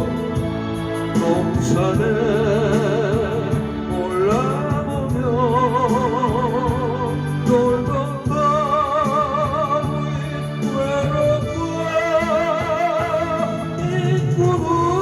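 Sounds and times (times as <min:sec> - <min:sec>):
electronic keyboard with bass: 0:00.0 - 0:15.0
person singing with vibrato: 0:00.0 - 0:15.0.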